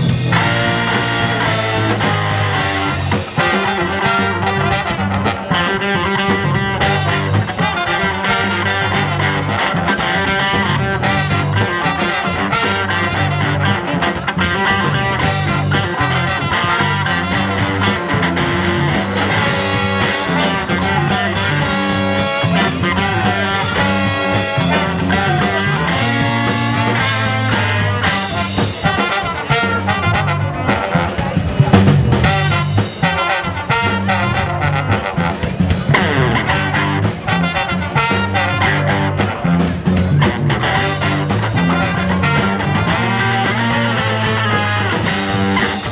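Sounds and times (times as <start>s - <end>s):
live band playing instrumental: 0.0s - 45.9s.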